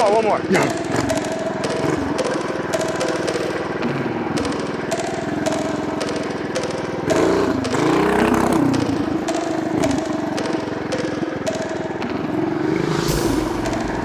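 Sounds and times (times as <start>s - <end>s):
mini bike engine revving: 0.0s - 12.4s.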